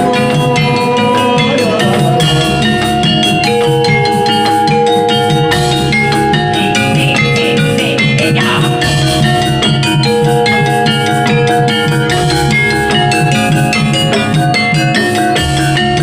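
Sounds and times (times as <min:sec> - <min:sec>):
drums: 0:00.0 - 0:16.0
gamelan music: 0:00.0 - 0:16.0
gongs ringing: 0:00.0 - 0:16.0.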